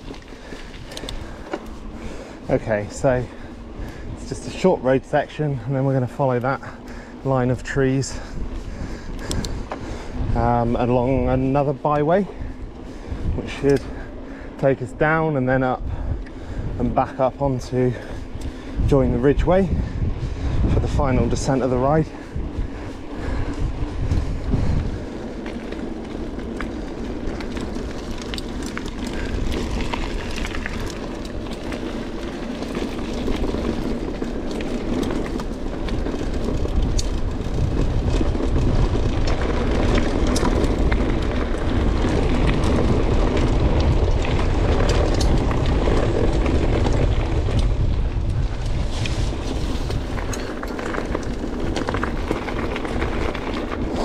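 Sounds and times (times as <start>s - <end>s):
stones and bike rattling: 0.0s - 54.0s
tyres rumbling on the road: 0.0s - 54.0s
wind buffeting microphone: 0.0s - 54.0s.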